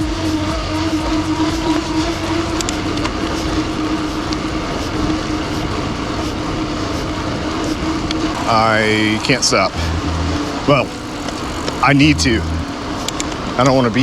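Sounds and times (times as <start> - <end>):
bike tyres rolling on pavement: 0.0 - 14.0.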